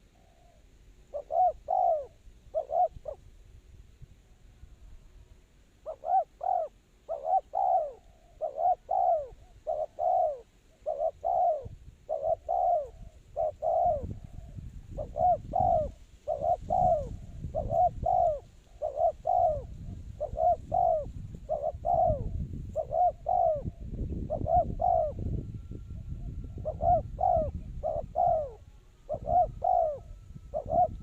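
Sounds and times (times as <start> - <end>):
doves cooing: 0.0 - 3.3, 5.8 - 31.0.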